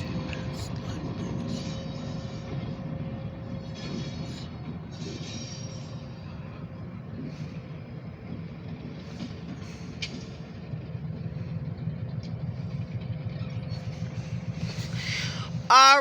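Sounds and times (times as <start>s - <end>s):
diesel locomotives rumbling by: 0.0s - 16.0s.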